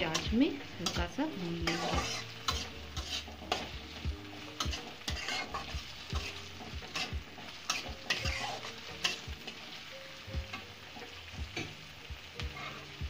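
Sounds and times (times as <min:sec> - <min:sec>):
spatula scraping and knocking pan: 0:00.0 - 0:11.8
vegetables sizzling in hot oil: 0:00.0 - 0:13.0.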